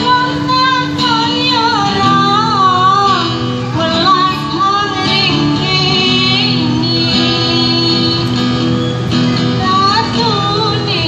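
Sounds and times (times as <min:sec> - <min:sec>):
strummed acoustic guitar: 0:00.0 - 0:11.0
woman singing into a microphone: 0:00.0 - 0:11.0.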